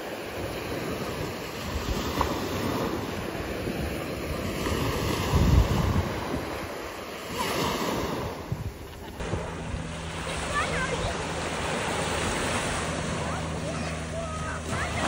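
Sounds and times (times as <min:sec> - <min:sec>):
small waves breaking on sand: 0:00.0 - 0:15.0
wind buffeting microphone: 0:00.4 - 0:15.0.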